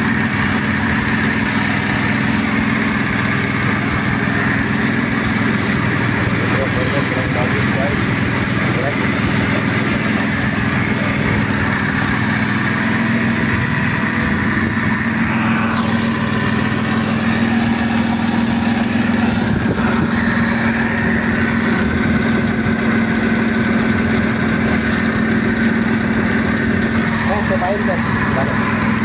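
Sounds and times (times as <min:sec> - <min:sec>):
air conditioning compressor drone: 0:00.0 - 0:29.0
car engine idling: 0:00.0 - 0:29.0.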